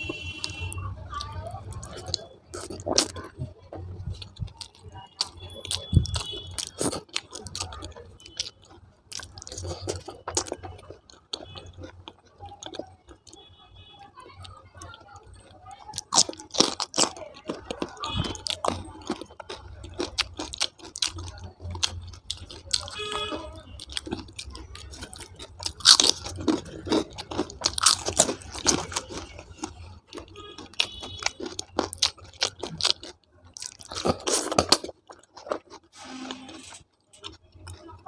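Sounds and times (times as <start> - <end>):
chewing and crunching food: 0.0 - 38.0.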